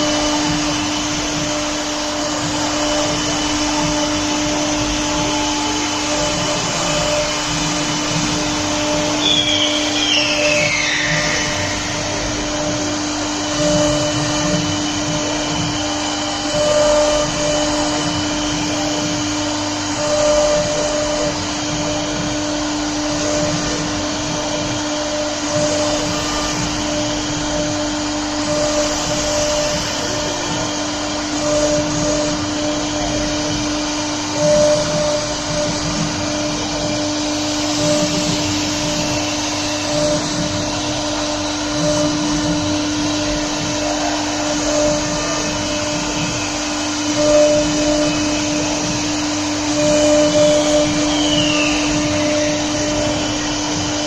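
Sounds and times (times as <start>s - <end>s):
router spindle whine: 0.0s - 54.0s.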